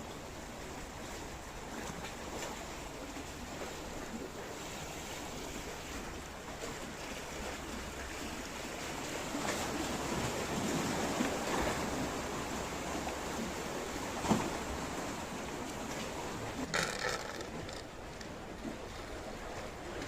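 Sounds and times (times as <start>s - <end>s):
sea waves washing on beach: 0.0s - 20.0s.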